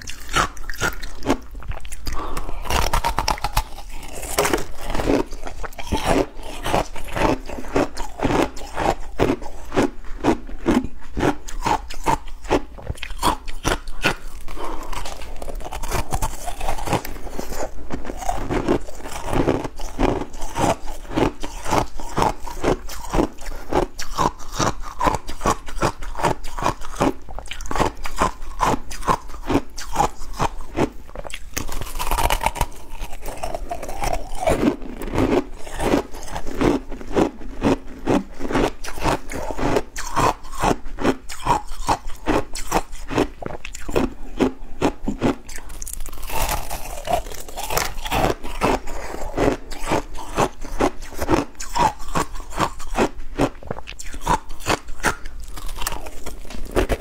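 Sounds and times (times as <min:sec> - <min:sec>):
chewing and crunching ice: 0:00.0 - 0:57.0.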